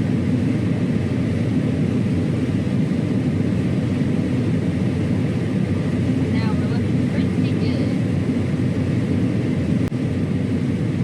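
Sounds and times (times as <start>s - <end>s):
combine engine drone: 0.0s - 11.0s.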